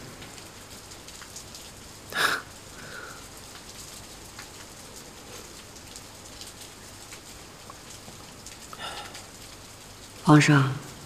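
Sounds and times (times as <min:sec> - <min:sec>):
steady rain: 0:00.0 - 0:11.0
water dripping: 0:00.0 - 0:11.0.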